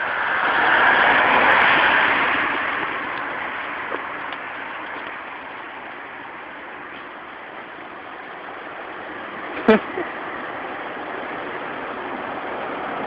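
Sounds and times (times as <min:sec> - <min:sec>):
street traffic rush: 0:00.0 - 0:13.0.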